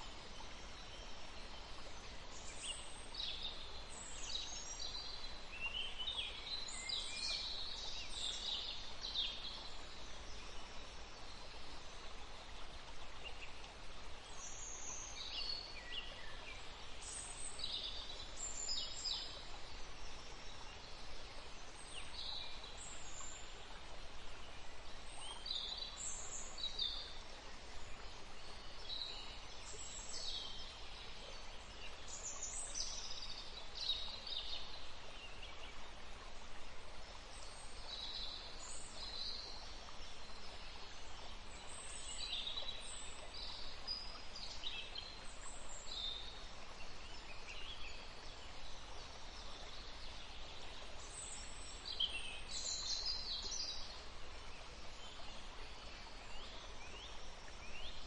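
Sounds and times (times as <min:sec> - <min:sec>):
low background hiss: 0:00.0 - 0:58.0.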